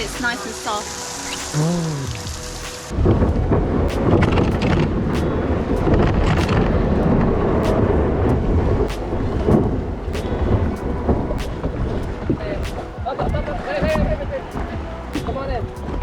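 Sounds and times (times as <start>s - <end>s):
wind buffeting microphone: 2.0s - 16.0s.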